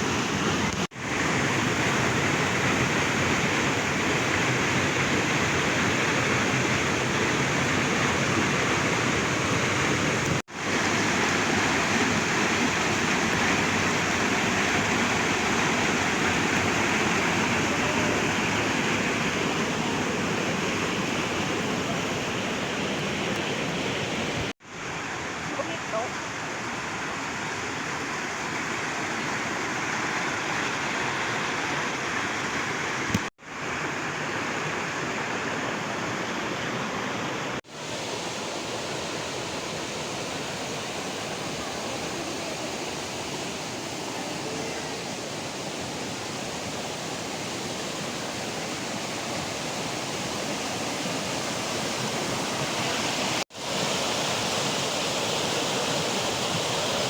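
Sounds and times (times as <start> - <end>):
waterfall and river rushing: 0.0 - 57.0.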